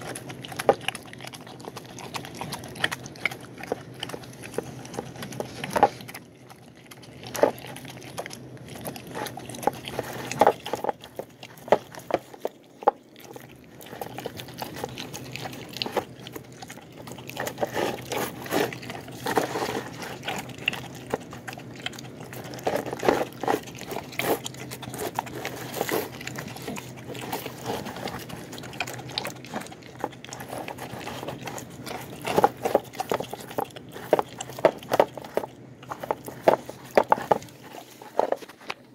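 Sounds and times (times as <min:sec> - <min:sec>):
bone crunching clicks: 0:00.0 - 0:38.9
dog chewing and slurping: 0:00.0 - 0:38.9.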